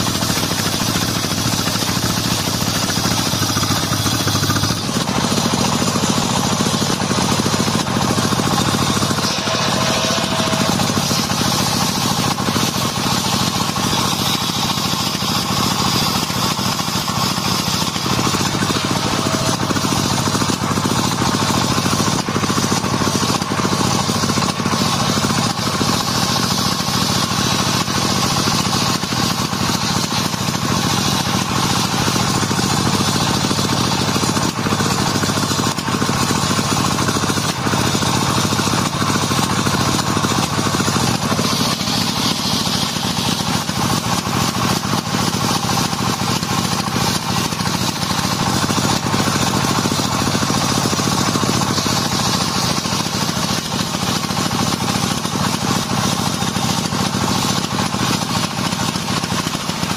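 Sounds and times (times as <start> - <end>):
circular saw motor hum: 0.0 - 54.6
saw blade cutting wood: 0.0 - 59.9.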